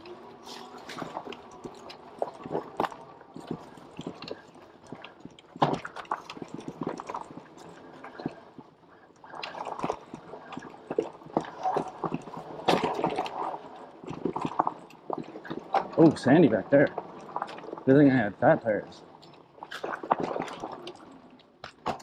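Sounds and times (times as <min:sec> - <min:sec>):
bike rattling over dirt trail: 0:00.0 - 0:08.6, 0:09.3 - 0:22.0.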